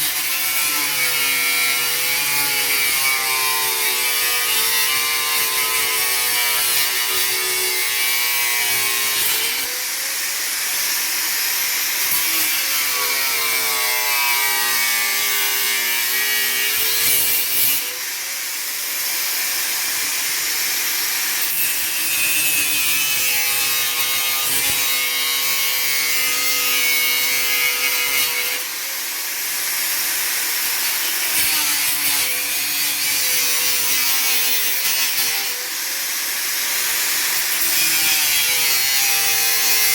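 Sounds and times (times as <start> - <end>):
angle grinder cutting plastic: 0.0 - 39.9.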